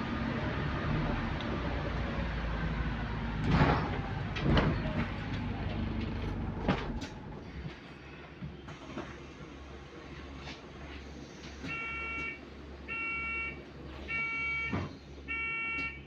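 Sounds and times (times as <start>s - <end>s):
bus road and drive noise: 0.0s - 16.0s.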